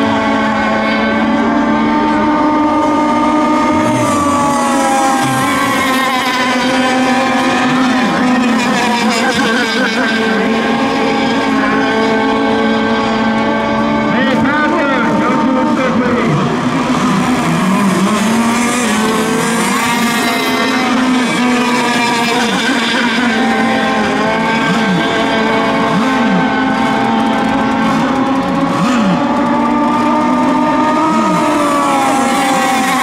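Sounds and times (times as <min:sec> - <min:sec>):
racing boat motors passing: 0:00.0 - 0:33.0.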